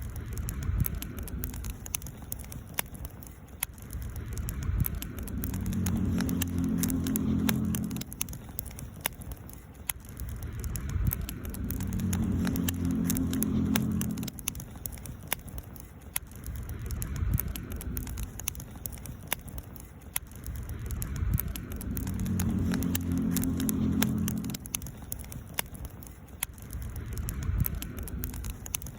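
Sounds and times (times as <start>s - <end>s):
campfire crackling and popping: 0.0s - 28.9s
low rumbling hum: 0.0s - 28.9s.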